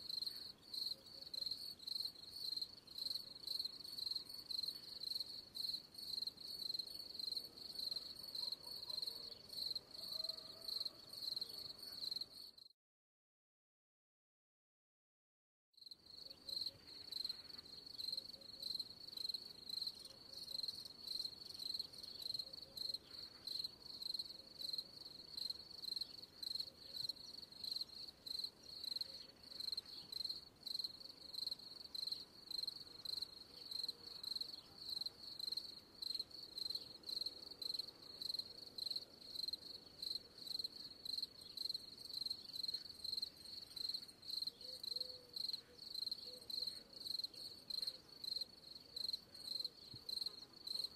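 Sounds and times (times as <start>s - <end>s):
crickets chirping: 0.0s - 12.7s, 15.8s - 50.9s.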